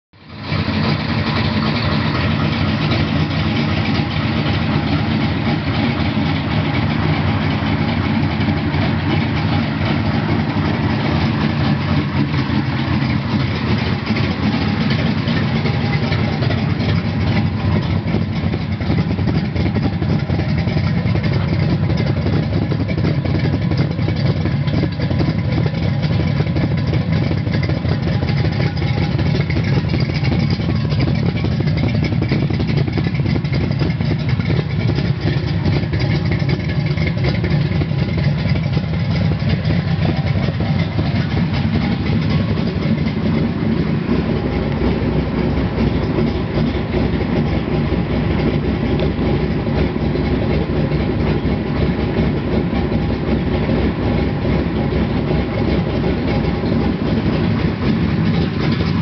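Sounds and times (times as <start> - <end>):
car engine idling loudly: 0.0 - 59.0.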